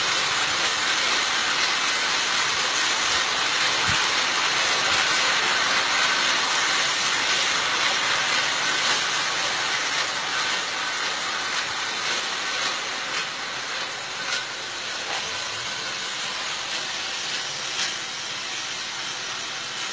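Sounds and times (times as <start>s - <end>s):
metro train rushing: 0.0s - 19.9s.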